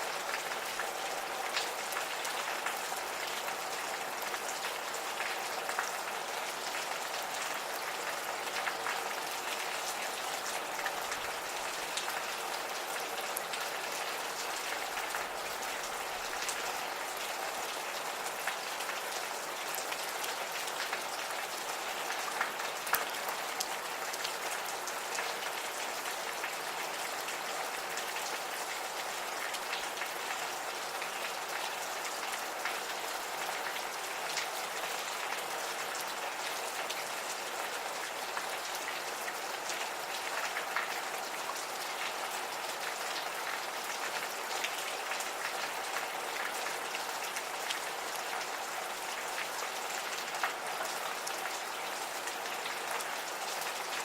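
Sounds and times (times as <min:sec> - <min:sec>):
rain pattering on hard surface: 0:00.0 - 0:54.0.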